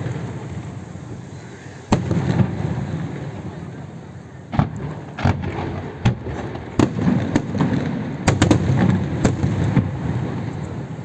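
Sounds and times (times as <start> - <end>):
fireworks sharp bangs: 0.0 - 11.0.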